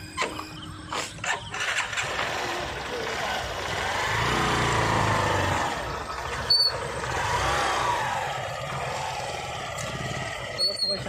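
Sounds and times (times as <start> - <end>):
motorcycle engine running: 0.2 - 11.0.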